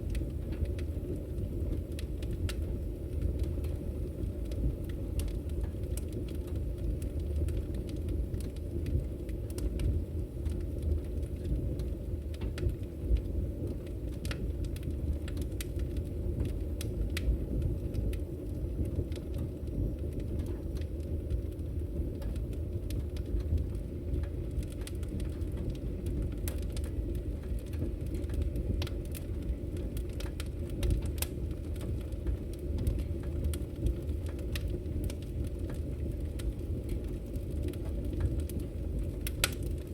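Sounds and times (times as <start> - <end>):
fire rumbling: 0.0 - 39.9
firewood crackling and popping: 0.0 - 39.9.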